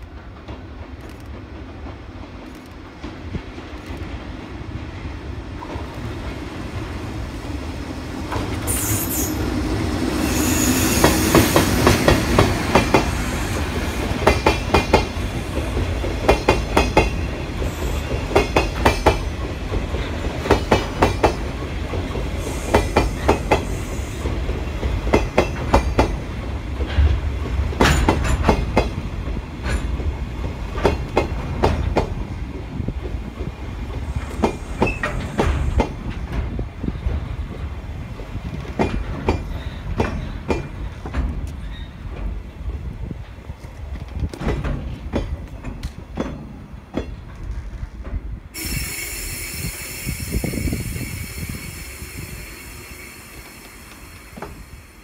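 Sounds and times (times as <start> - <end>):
electric locomotive hum and hiss: 0.0 - 55.0.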